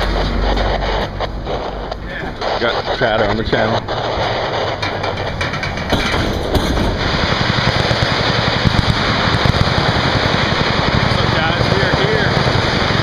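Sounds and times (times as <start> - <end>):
machine gun fire: 0.0 - 13.0.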